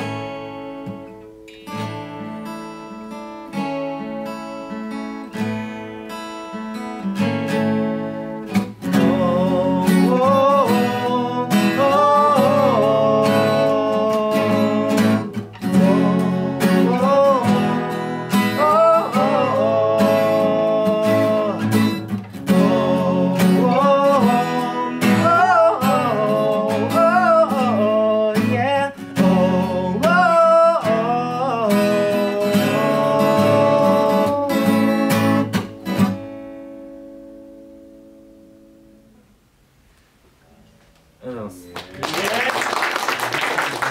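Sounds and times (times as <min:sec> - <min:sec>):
two acoustic guitars playing: 0:00.0 - 0:39.5.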